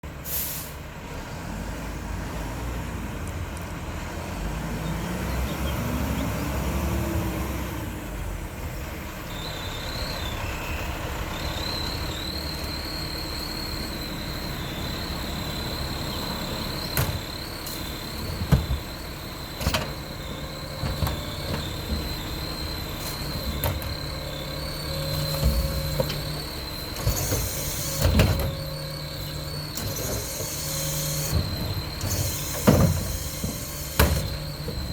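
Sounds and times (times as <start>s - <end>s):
garbage truck running: 0.0s - 34.9s.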